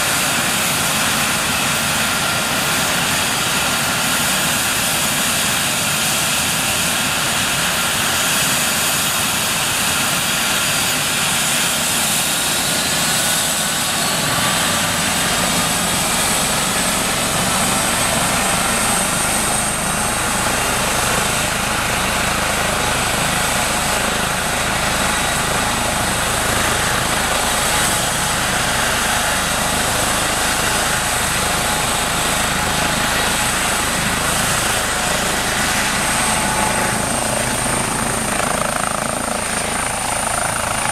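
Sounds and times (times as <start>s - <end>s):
helicopter rotors turning: 0.0s - 40.9s
helicopter turbine whine: 0.0s - 40.9s.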